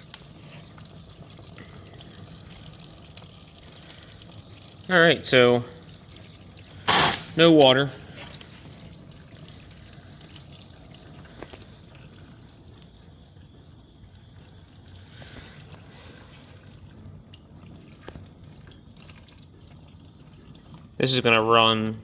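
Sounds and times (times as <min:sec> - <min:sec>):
oil trickling and dripping: 0:00.0 - 0:22.0.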